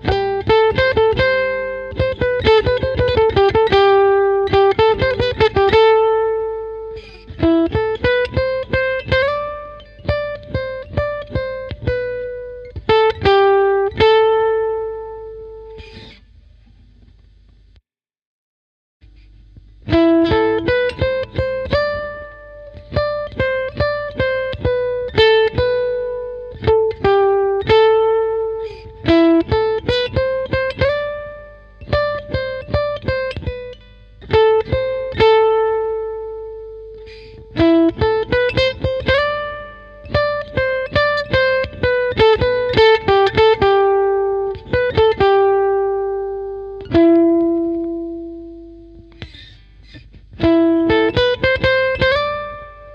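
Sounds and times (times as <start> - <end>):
plucked guitar melody: 0.0 - 16.3, 19.1 - 52.9.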